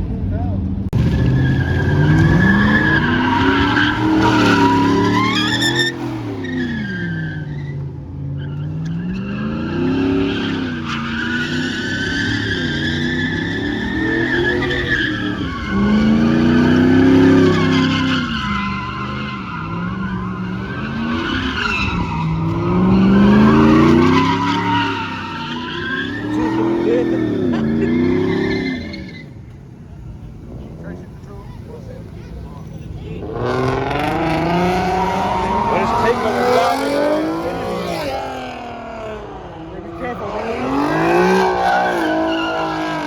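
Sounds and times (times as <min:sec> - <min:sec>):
truck engine revving: 0:00.9 - 0:07.5, 0:08.7 - 0:43.0
tire squeal: 0:01.0 - 0:43.0.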